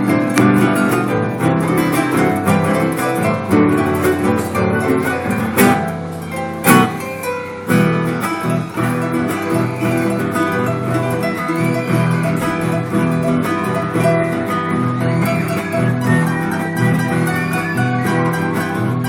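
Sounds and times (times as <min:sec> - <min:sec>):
acoustic guitar plucked notes: 0:00.0 - 0:19.0
guitar strummed accents: 0:00.0 - 0:19.0.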